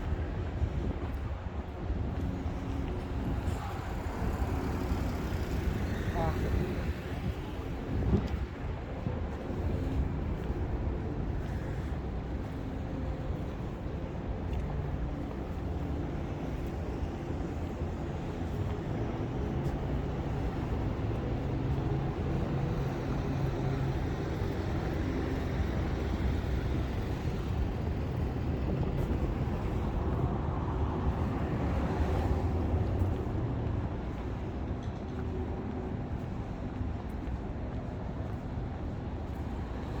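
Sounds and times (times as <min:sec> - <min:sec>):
city traffic rumble: 0:00.0 - 0:40.0.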